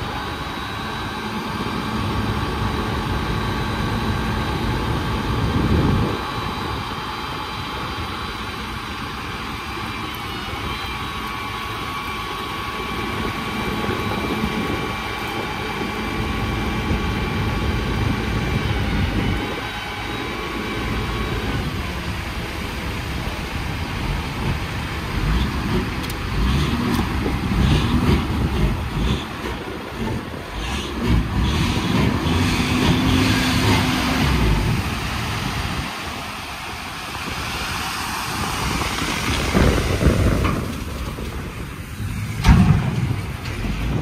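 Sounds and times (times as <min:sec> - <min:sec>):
heavy engine running: 0:00.0 - 0:44.0.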